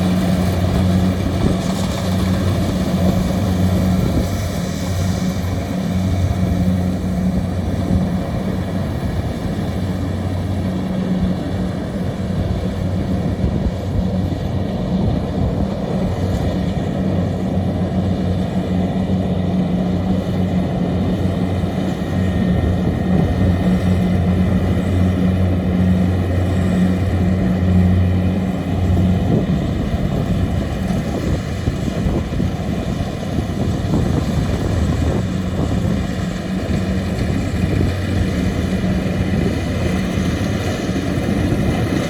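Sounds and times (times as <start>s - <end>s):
combine harvester engine drone: 0.0s - 42.0s.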